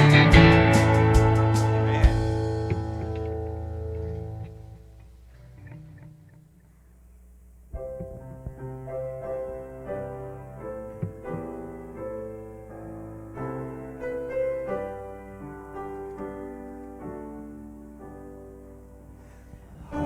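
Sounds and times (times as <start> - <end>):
piano playing sustained chords: 0.0 - 6.1, 7.7 - 20.0.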